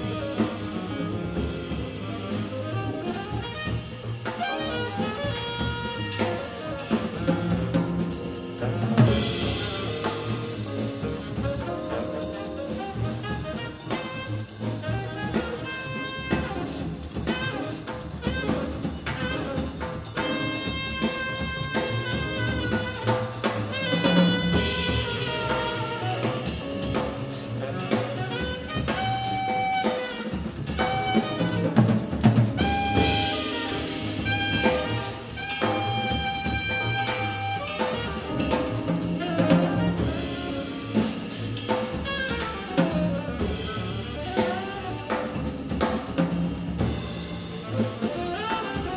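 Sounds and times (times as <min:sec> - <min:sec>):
drum kit cymbals and snare: 0:00.0 - 0:48.9
tenor saxophone melody: 0:00.0 - 0:48.9.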